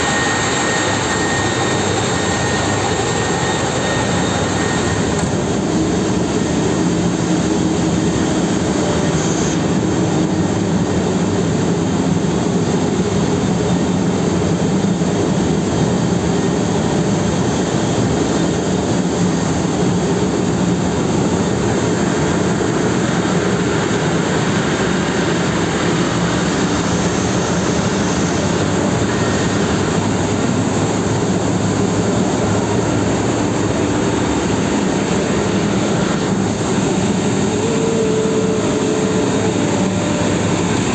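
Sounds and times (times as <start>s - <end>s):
ship engines droning: 0.0s - 40.9s.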